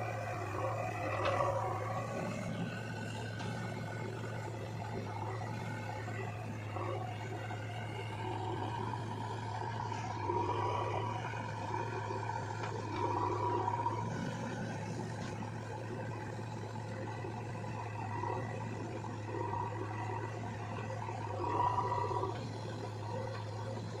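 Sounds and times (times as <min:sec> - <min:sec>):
diesel engine running: 0:00.0 - 0:24.0
hydraulic whine: 0:00.0 - 0:24.0.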